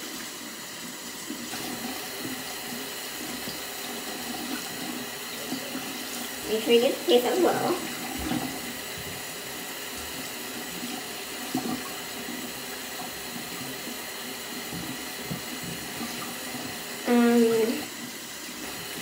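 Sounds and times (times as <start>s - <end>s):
tap water running and splashing: 0.0s - 19.0s.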